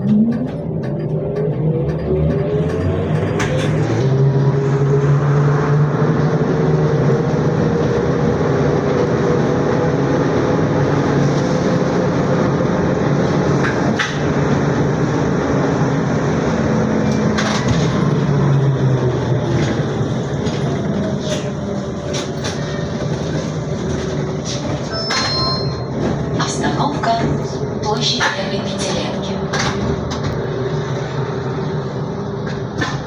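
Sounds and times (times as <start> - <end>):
rumble of vehicle ride: 0.0 - 33.0.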